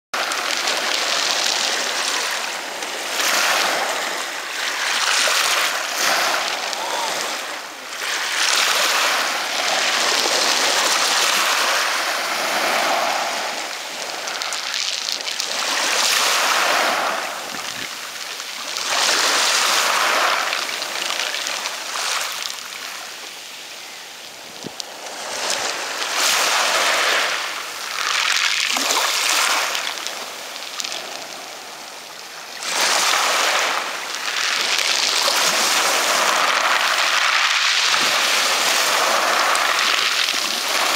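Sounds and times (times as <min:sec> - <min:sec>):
waves washing over pebbles: 0:00.2 - 0:40.9.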